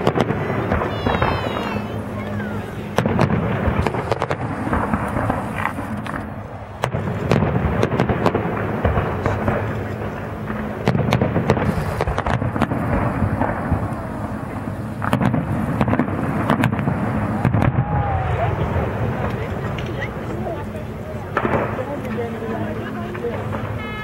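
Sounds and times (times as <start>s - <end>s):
continuous low rumble: 0.0s - 24.0s
fireworks popping and banging: 0.0s - 24.0s.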